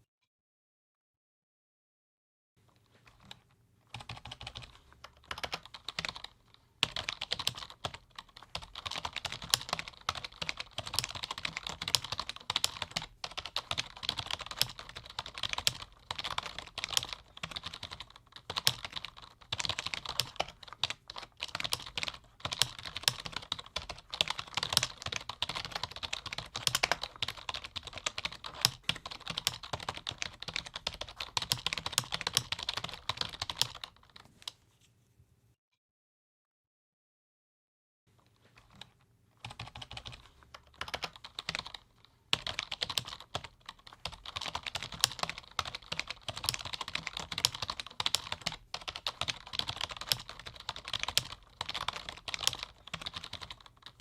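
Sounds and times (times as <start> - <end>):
fast keyboard typing: 3.1 - 34.2, 38.5 - 54.0.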